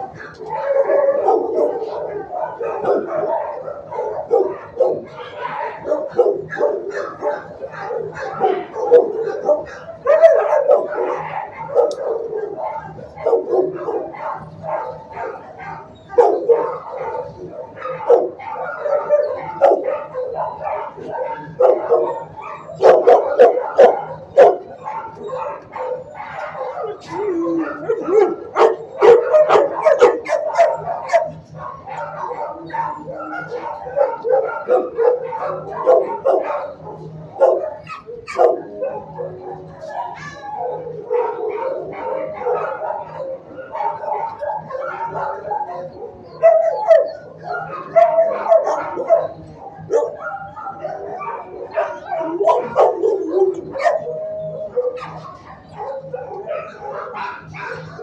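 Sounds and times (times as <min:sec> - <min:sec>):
dogs barking and yipping: 0:00.0 - 0:58.0.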